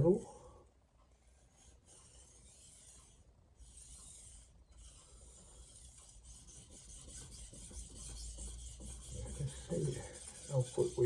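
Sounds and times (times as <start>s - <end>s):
knife scraping on whetstone: 1.9s - 11.0s.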